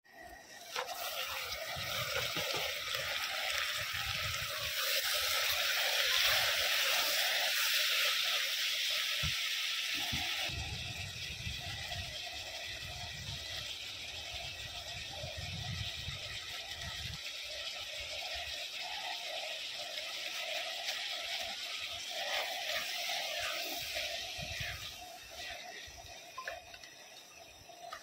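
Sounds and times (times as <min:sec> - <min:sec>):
vegetables sizzling in oil: 0:00.1 - 0:28.0.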